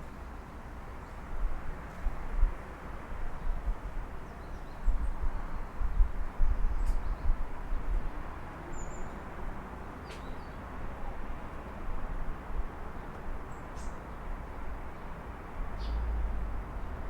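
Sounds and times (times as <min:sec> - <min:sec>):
distant city traffic hum: 0:00.0 - 0:17.0.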